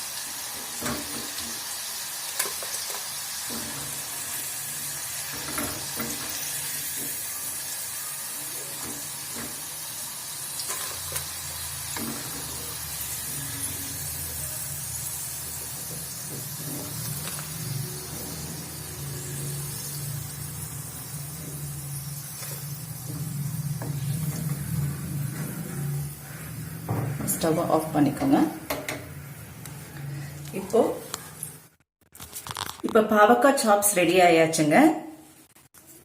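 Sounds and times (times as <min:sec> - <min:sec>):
vegetables sizzling in hot oil: 0:00.0 - 0:31.8.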